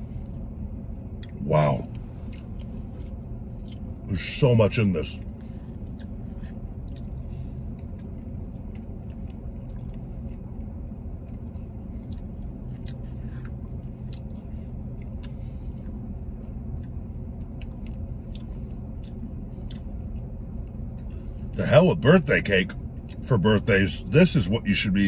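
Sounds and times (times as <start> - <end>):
low hum in car cabin: 0.0 - 25.0.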